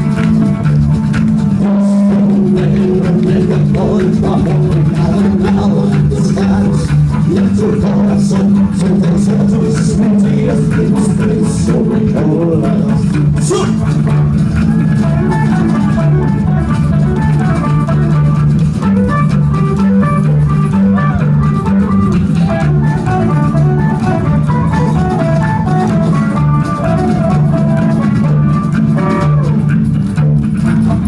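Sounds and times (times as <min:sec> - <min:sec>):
bass line: 0:00.0 - 0:31.0
drum kit: 0:00.0 - 0:31.0
electric guitar melody: 0:00.0 - 0:31.0.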